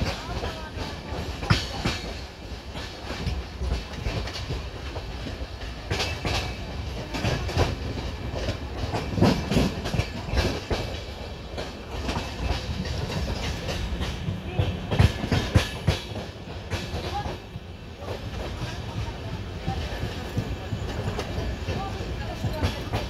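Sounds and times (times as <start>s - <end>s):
train rumble inside coach: 0.0s - 23.0s
wheels clacking over rail joints: 0.0s - 23.0s.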